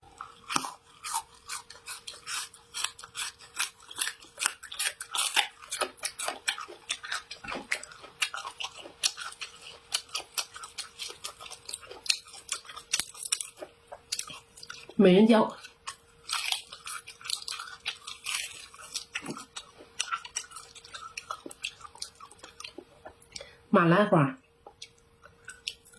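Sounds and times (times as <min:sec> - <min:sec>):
chewing crisp food: 0:00.0 - 0:23.5, 0:24.5 - 0:25.9.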